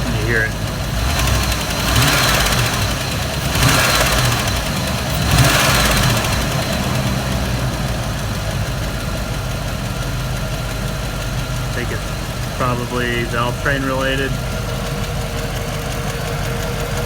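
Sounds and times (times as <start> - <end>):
engine idling and revving: 0.0 - 17.0
engine ticking: 0.0 - 17.0.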